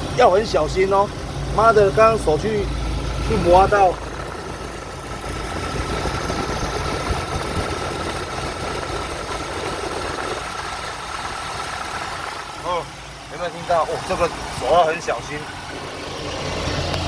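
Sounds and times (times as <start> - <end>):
alternator whir: 0.0 - 17.0
car engine idling: 0.0 - 17.0.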